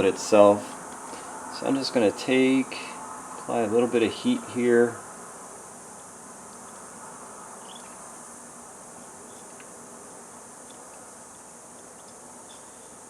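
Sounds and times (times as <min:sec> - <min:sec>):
faint low hum: 0:00.0 - 0:13.0
high-pitched hiss: 0:00.0 - 0:13.0.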